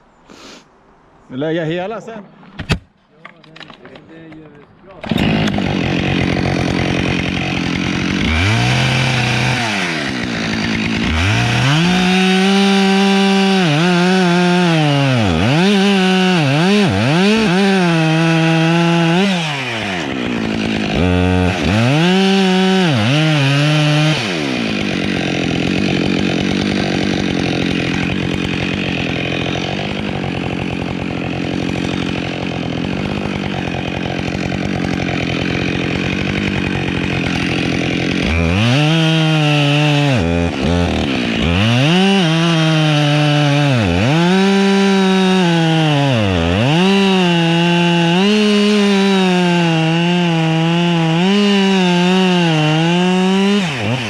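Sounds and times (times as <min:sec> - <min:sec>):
chainsaw cutting at full throttle: 0:05.0 - 0:54.0.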